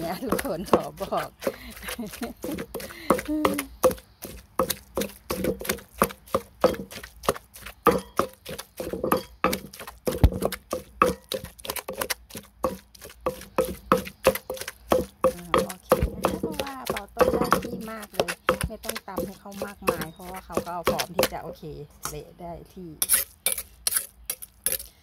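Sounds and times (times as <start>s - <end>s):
pestle pounding in a mortar: 0.0s - 22.2s.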